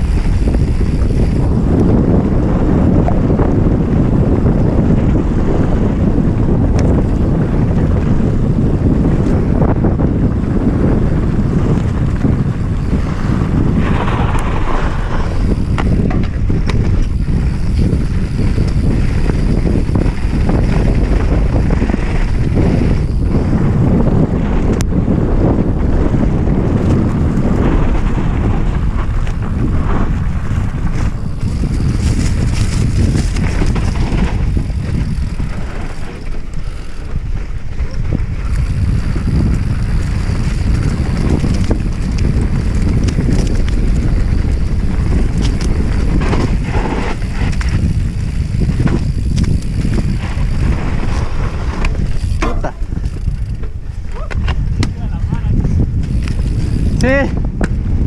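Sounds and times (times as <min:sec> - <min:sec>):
bike rattling on rough trail: 0:00.0 - 0:58.0
wind buffeting microphone: 0:00.0 - 0:58.0.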